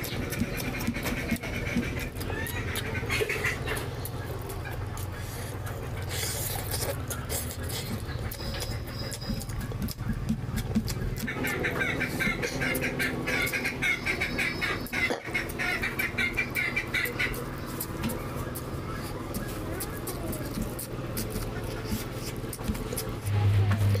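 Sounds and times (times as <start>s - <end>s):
chewing and lip-smacking: 0.0s - 24.0s
fingers squelching through rice: 0.0s - 24.0s
low hum: 0.0s - 24.0s.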